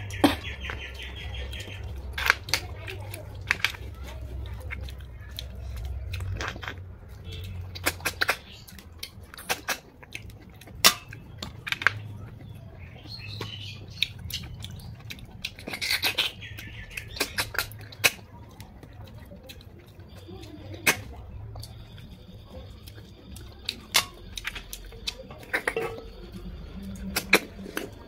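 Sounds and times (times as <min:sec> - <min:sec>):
snail shells clicking: 0:00.0 - 0:28.0.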